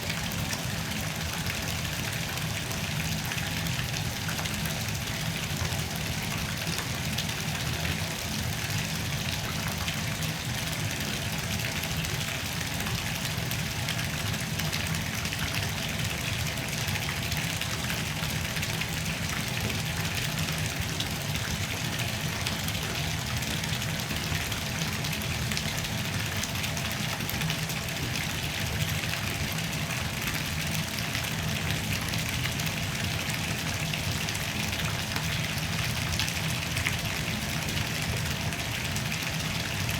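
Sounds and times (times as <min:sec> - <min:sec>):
tap water filling bathtub: 0:00.0 - 0:39.9.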